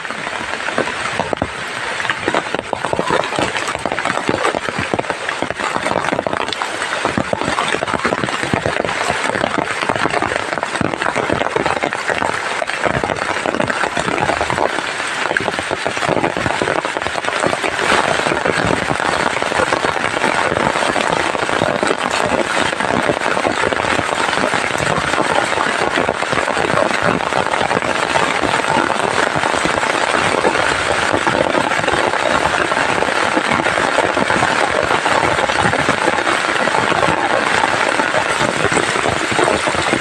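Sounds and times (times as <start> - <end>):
heavy rain downpour: 0.0 - 40.0.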